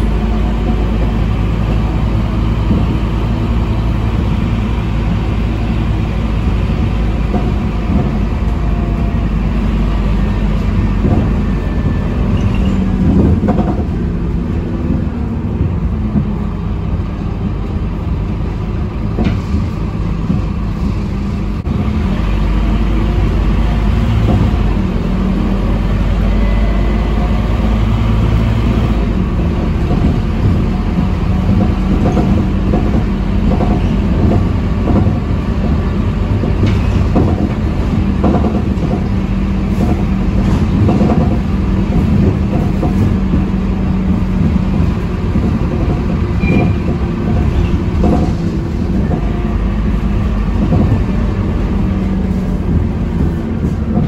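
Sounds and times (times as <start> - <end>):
bus diesel engine running: 0.0 - 54.0
road and tyre rumble: 0.0 - 54.0.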